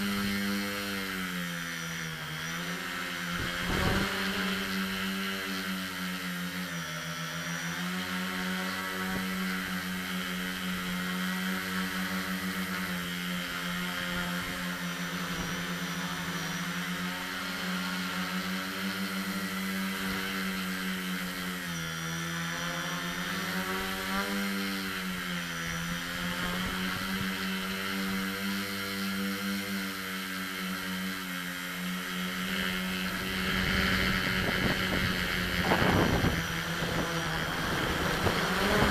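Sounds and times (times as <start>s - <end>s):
drone propellers whirring: 0.0s - 38.9s.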